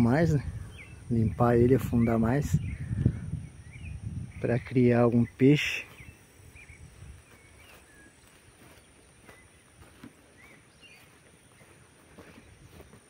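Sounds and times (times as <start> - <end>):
faint bird chirps: 0.0 - 13.0
quiet rural ambience: 0.0 - 13.0.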